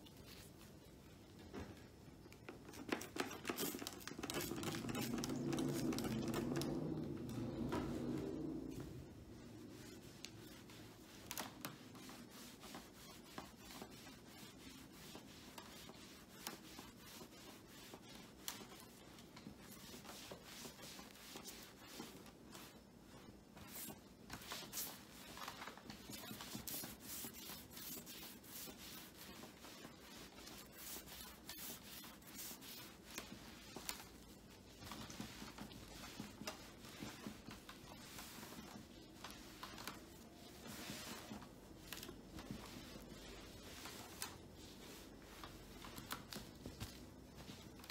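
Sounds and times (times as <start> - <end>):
cloth rubbing on monitor screen: 0.0 - 1.6, 2.6 - 47.9.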